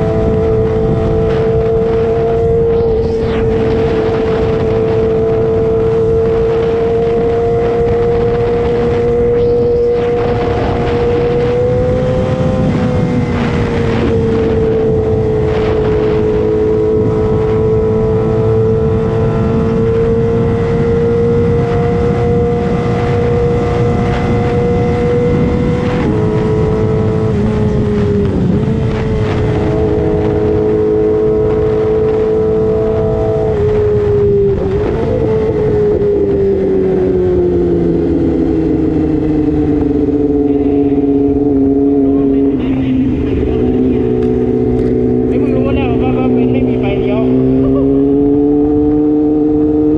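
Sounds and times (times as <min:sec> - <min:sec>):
motorcycle engine at high revs: 0:00.0 - 0:49.9
wind rush: 0:00.0 - 0:49.9.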